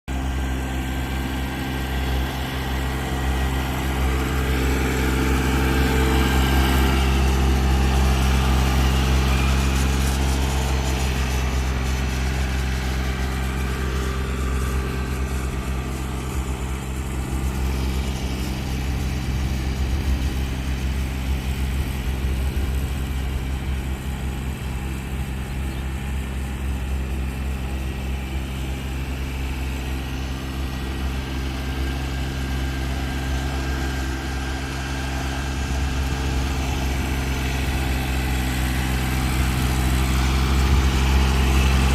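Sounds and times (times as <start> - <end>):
engine droning: 0.1 - 41.9.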